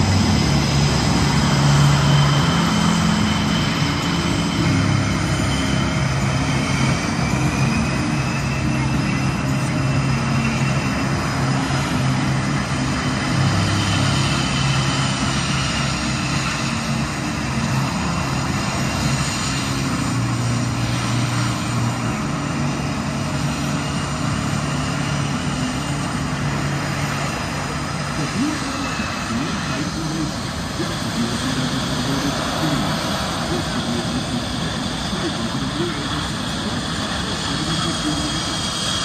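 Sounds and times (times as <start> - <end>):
aircraft engines running: 0.0 - 39.0.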